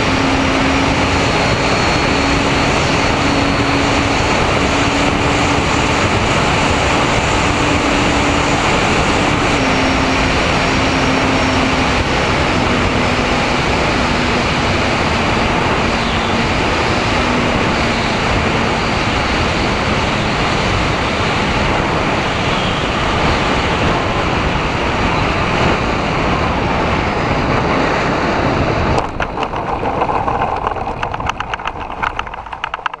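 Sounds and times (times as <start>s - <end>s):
rush of air and motor noise: 0.0s - 33.0s.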